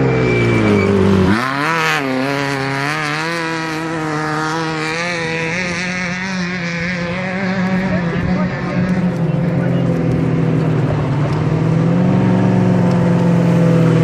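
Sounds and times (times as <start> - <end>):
race vehicle engine passing: 0.0 - 14.0.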